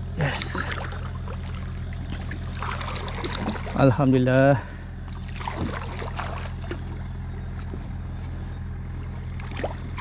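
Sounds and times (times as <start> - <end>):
low hum: 0.0 - 10.0
water lapping around boat: 0.0 - 10.0.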